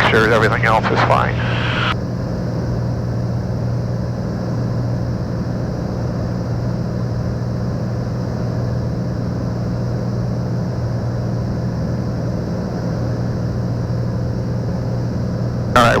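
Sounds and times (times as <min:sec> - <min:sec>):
aircraft engine and propeller drone: 0:00.0 - 0:16.0.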